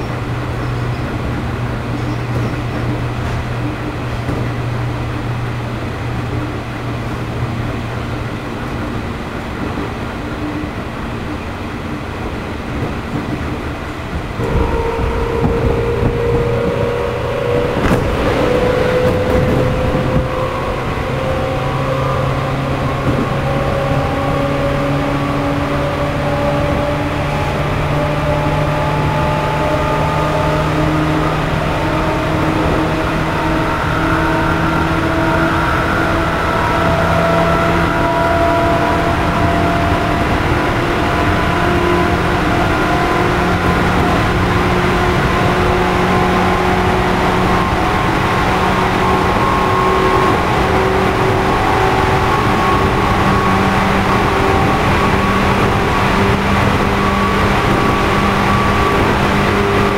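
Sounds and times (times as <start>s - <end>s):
electric train motor whine: 0.0s - 59.9s
train running hum: 0.0s - 59.9s.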